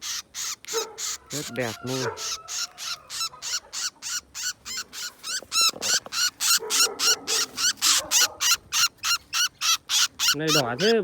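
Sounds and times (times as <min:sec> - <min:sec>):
bird alarm calls: 0:00.0 - 0:11.0.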